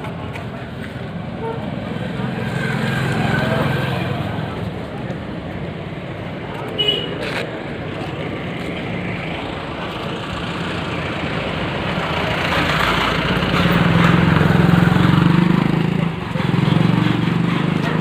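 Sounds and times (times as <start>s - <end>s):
road roller engine running: 0.0s - 18.0s.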